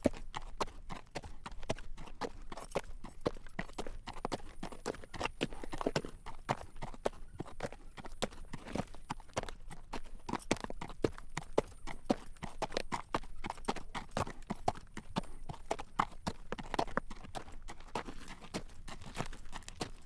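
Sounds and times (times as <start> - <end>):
horse hooves clip-clopping on road: 0.0 - 20.0.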